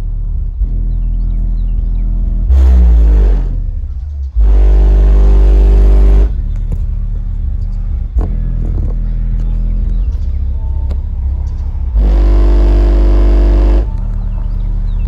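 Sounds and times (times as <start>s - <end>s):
bass-heavy music on subwoofer: 0.0s - 15.0s
loud bass hits: 2.3s - 9.1s, 9.7s - 15.0s.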